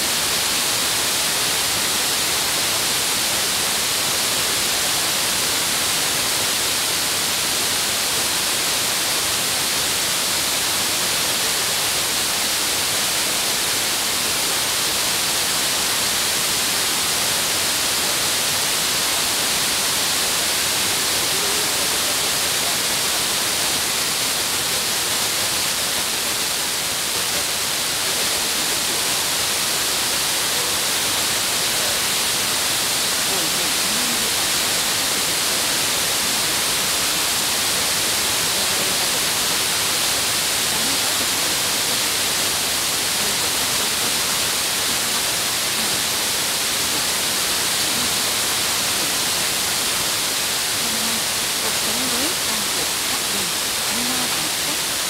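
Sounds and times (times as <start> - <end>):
radio static hiss: 0.0 - 55.0.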